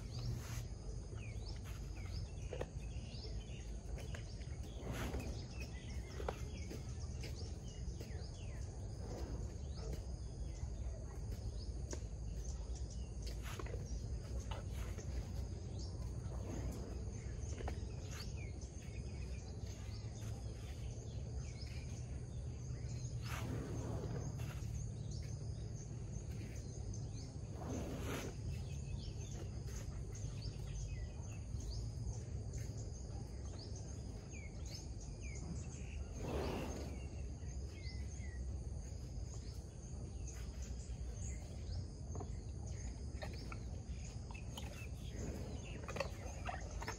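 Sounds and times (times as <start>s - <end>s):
low rumble: 0.0s - 46.9s.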